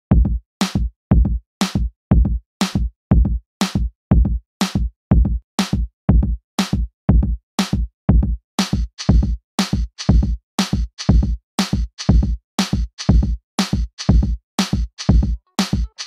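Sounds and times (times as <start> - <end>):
drum machine beat: 0.1 - 16.0.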